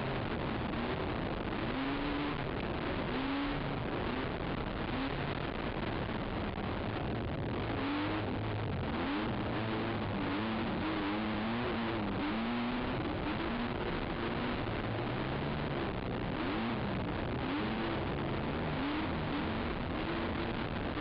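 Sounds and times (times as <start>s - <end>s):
quad engine revving: 0.0s - 21.0s
wind and rough-ground noise: 0.0s - 21.0s.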